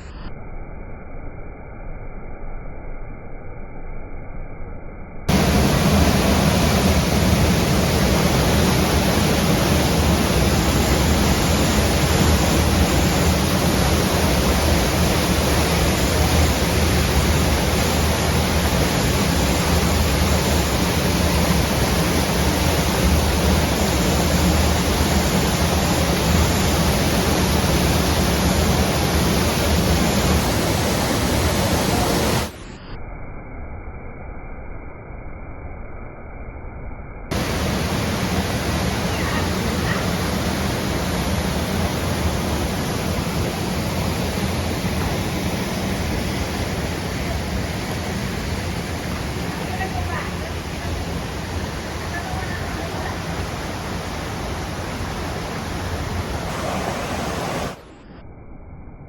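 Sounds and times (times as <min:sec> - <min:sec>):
waterfall rushing: 0:05.3 - 0:32.6, 0:37.3 - 0:57.9.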